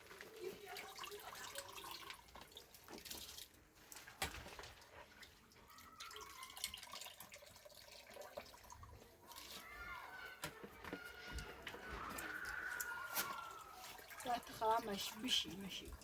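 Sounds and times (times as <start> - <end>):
faint water dripping: 0.0 - 10.5, 11.7 - 16.0.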